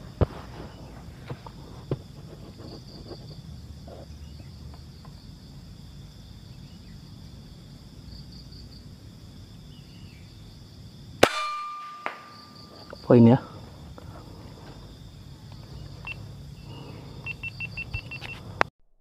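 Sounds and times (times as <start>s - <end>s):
insects chirping: 0.0s - 18.7s.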